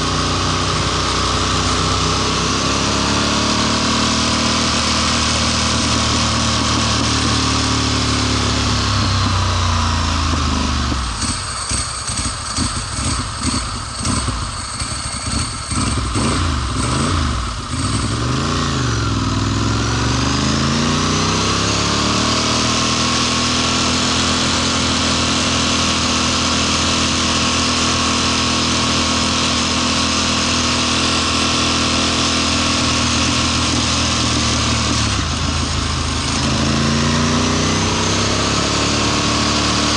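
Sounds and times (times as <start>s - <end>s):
motorcycle engine sputtering: 0.0s - 39.9s.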